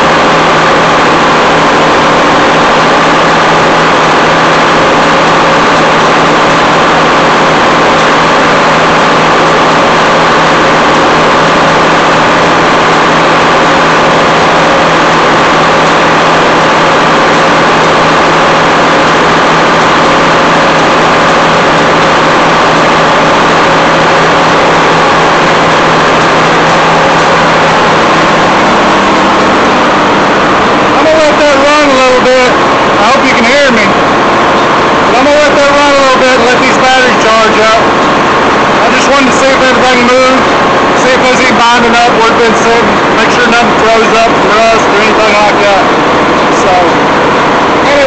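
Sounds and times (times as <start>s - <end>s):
diesel engine running steadily: 0.0s - 48.0s.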